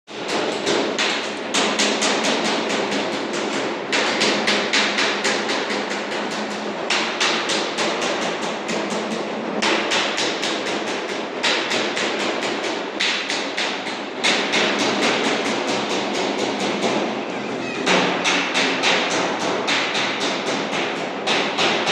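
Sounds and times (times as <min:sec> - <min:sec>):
hammer striking sheet metal: 0:00.1 - 0:21.9.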